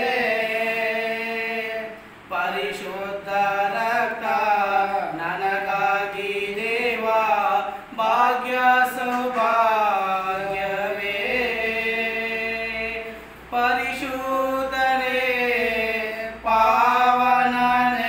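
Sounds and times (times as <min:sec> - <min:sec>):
men singing a cappella: 0:00.0 - 0:18.0.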